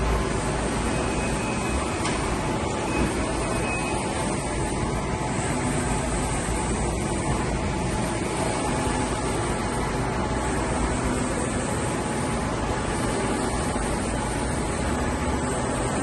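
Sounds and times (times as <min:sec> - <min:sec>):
printer whirring: 0:00.0 - 0:16.0.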